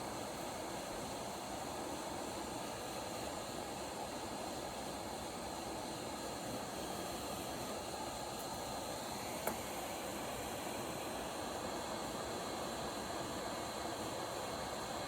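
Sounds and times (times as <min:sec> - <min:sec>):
hot air station blowing: 0:00.0 - 0:15.0.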